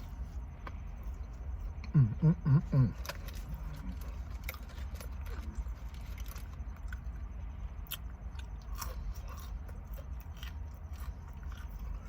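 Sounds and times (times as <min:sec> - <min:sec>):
person chewing crunchy food: 0:00.0 - 0:12.0
steady low hum: 0:00.0 - 0:12.0.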